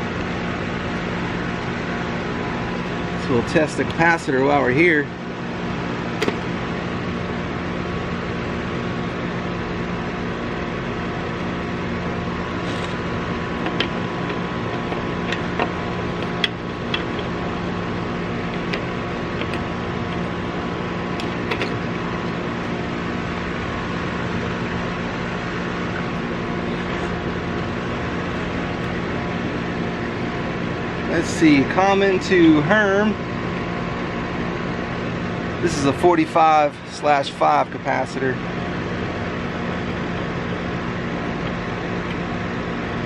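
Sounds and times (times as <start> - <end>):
air conditioner electrical hum: 0.0 - 43.0.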